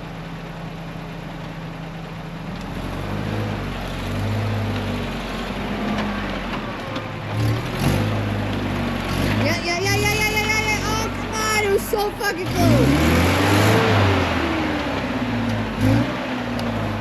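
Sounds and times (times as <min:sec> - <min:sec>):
off-road engine revving: 0:02.5 - 0:17.0.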